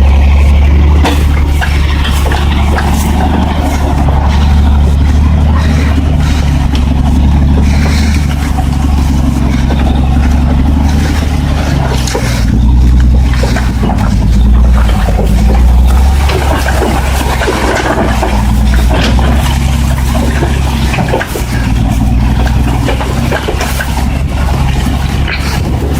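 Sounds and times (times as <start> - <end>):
diesel truck engine droning: 0.0 - 25.9
knocks and rattles: 0.0 - 25.9.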